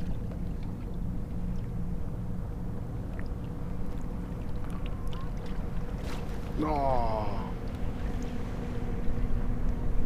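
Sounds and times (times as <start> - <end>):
faint steady hum: 0.0 - 10.0
water lapping against a hull: 0.0 - 10.0.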